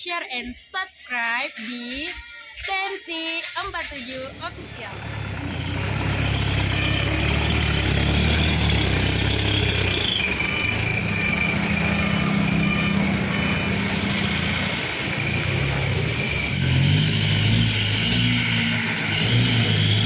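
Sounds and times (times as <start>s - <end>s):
diesel truck engine running: 3.4s - 20.0s.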